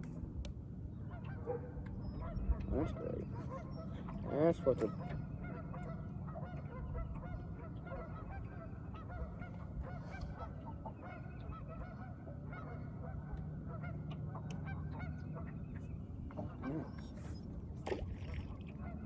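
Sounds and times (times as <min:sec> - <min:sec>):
geese honking: 0:01.1 - 0:17.5.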